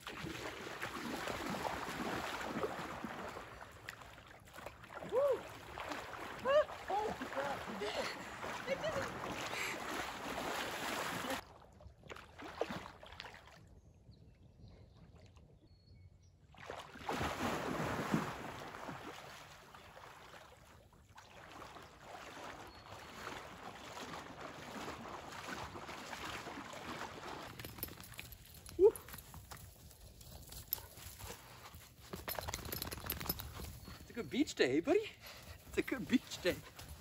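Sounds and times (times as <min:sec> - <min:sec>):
water splashing and sloshing: 0:00.0 - 0:13.9, 0:16.4 - 0:33.8.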